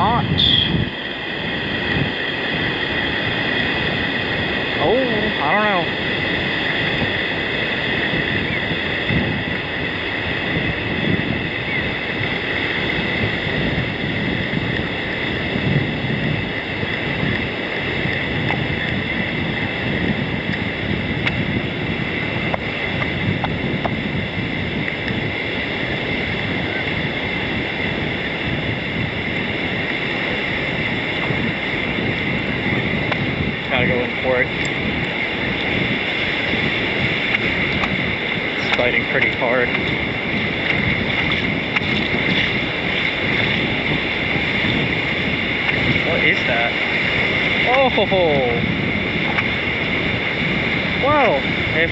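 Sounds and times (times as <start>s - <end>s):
ocean surf washing up: 0.0s - 51.9s
wind on microphone: 0.0s - 51.9s.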